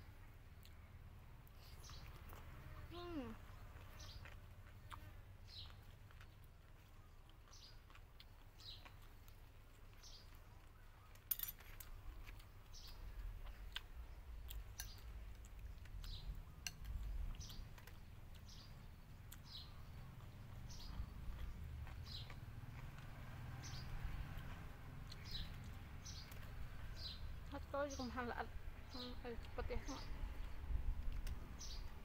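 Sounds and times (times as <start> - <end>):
bird chirping: 0.6 - 4.4, 5.5 - 32.0.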